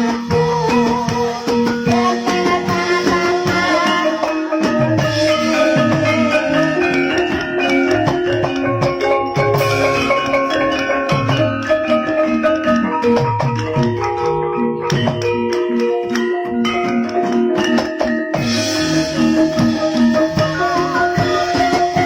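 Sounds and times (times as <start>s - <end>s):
drum strokes: 0.0s - 22.0s
mallet-struck pitched notes: 0.0s - 22.0s.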